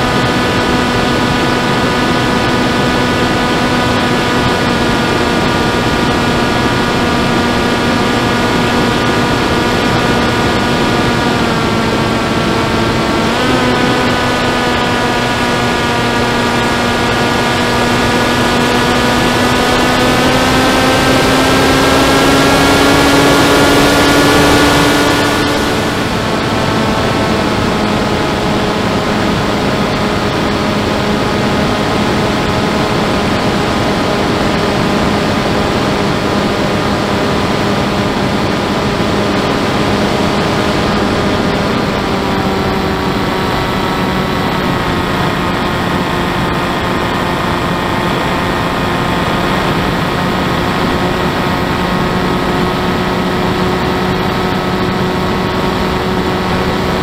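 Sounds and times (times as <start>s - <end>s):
electric motor and propeller: 0.0s - 57.0s
wind rush: 0.0s - 57.0s.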